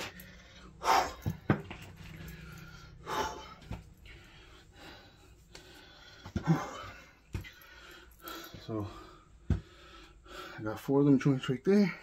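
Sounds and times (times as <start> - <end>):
man breathing hard: 0.0 - 10.8.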